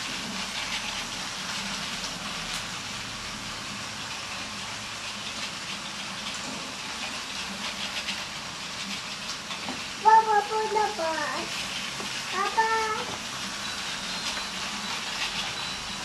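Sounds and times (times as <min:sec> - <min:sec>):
toy train motors whirring: 0:00.0 - 0:16.0.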